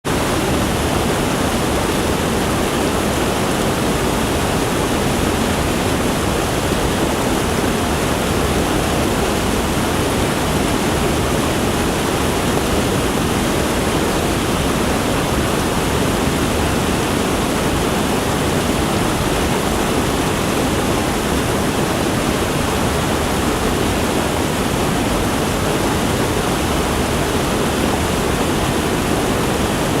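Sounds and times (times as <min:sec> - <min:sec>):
waterfall roar: 0:00.0 - 0:30.0.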